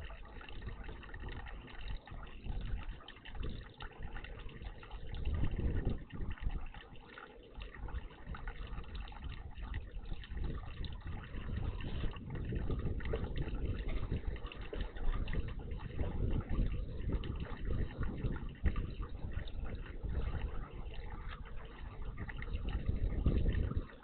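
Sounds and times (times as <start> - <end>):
water splashing and gurgling: 0.0 - 24.0.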